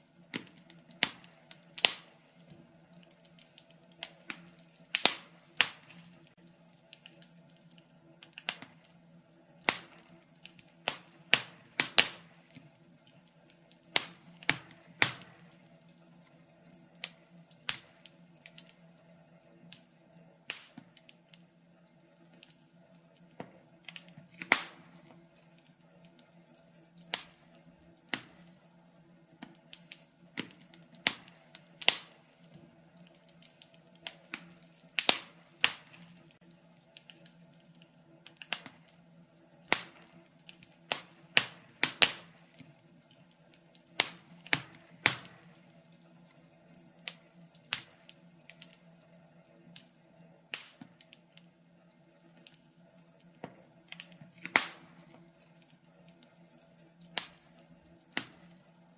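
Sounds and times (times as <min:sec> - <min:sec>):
faint steady hum: 0:00.0 - 0:58.9
wood fire crackling: 0:00.0 - 0:58.9.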